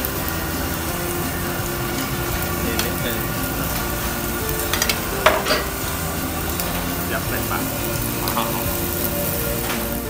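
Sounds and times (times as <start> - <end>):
food sizzling on a grill: 0.0 - 10.0.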